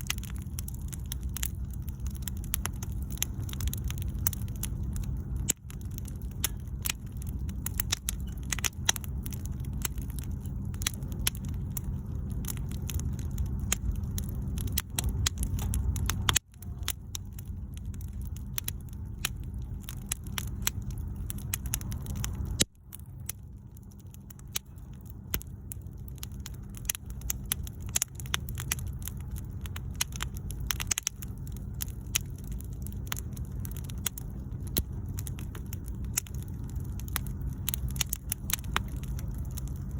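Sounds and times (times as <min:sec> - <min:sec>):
bonfire crackling and popping: 0:00.0 - 0:39.9
low steady rumble: 0:00.0 - 0:39.9.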